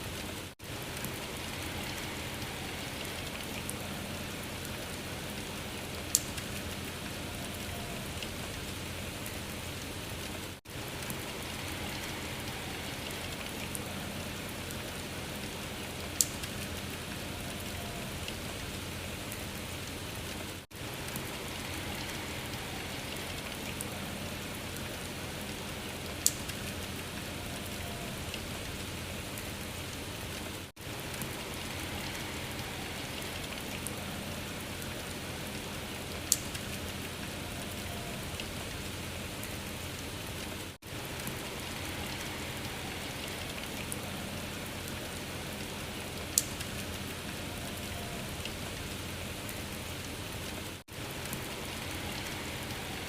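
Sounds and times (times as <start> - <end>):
rain-like patter and hiss: 0.0 - 53.0.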